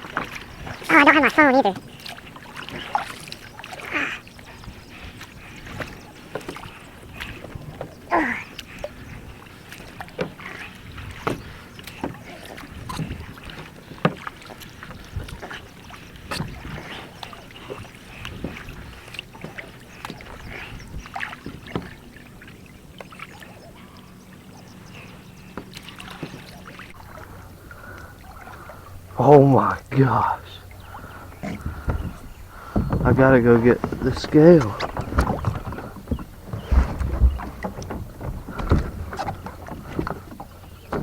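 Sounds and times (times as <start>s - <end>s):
water sounds: 0.0s - 41.0s
paddle knocking on plastic hull: 4.4s - 23.2s, 25.5s - 41.0s.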